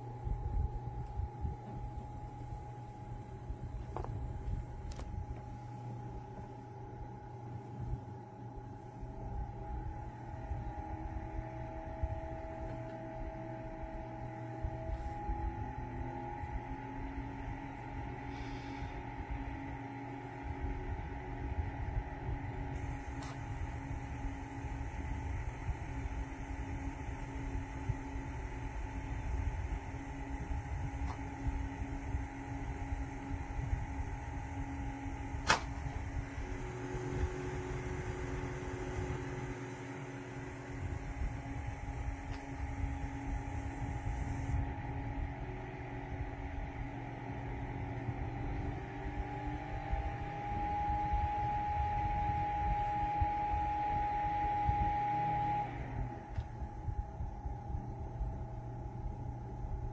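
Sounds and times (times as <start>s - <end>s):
air cooler fan hum: 0.0s - 59.9s.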